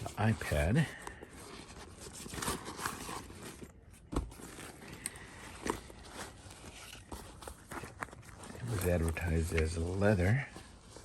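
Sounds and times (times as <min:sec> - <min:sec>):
handling clicks and scrapes: 0:00.0 - 0:11.0.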